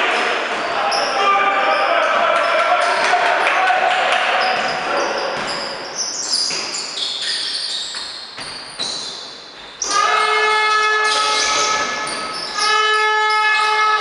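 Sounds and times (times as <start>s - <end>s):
sneakers squeaking: 0.0s - 2.9s, 3.6s - 14.0s.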